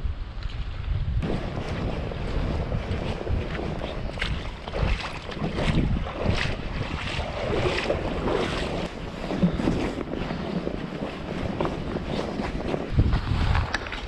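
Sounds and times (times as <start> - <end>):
wind buffeting microphone: 0.0 - 14.0
footsteps on gravel: 1.2 - 14.0.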